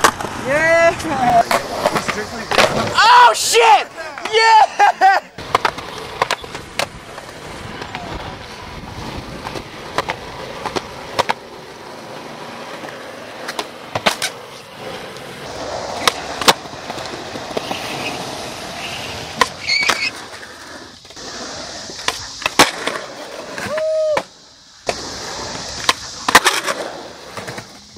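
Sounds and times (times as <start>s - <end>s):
skateboard clacks: 0.0s - 27.9s
skateboard wheels rolling on concrete: 0.0s - 27.9s.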